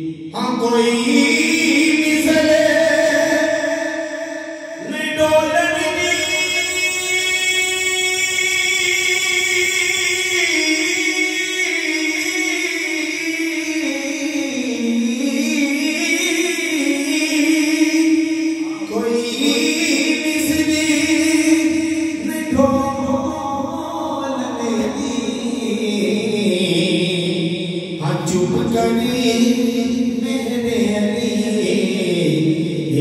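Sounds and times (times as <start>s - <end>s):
man singing unaccompanied: 0.0s - 33.0s.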